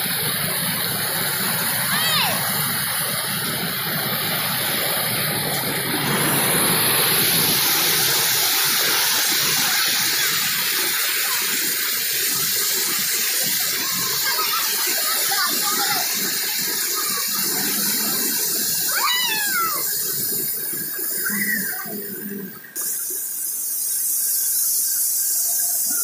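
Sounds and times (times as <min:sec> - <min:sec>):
rushing river water: 0:00.0 - 0:26.0.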